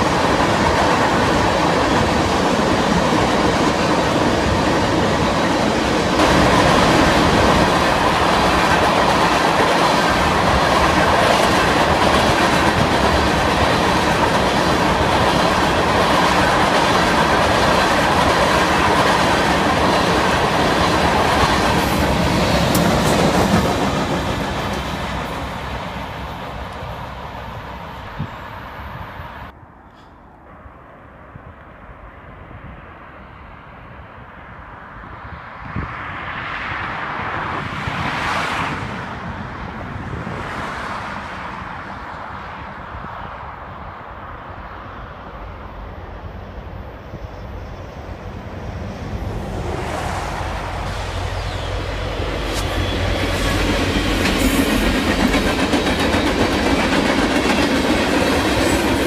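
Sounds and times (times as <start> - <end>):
freight train rolling past: 0.0 - 29.6, 30.5 - 59.0.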